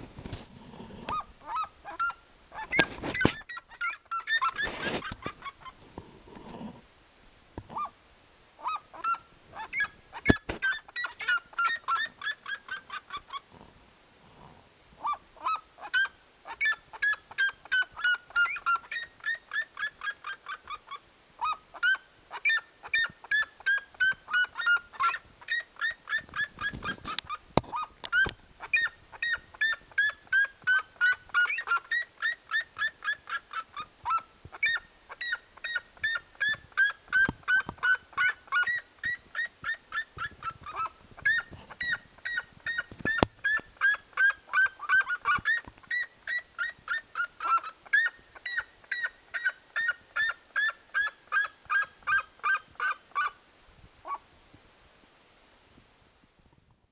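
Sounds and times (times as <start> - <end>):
bird honking calls: 1.1 - 5.8, 8.6 - 13.4, 15.0 - 53.4.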